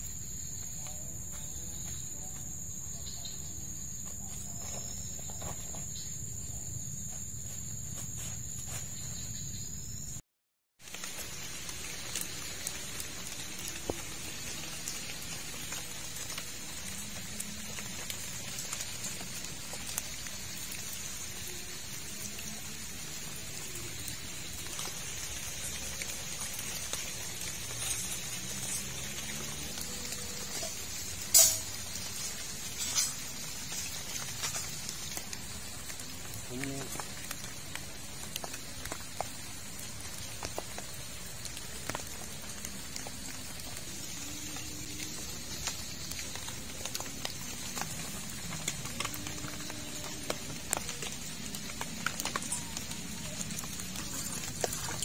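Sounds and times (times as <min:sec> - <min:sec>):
steady rain falling: 0:00.0 - 0:06.8, 0:10.8 - 0:55.0.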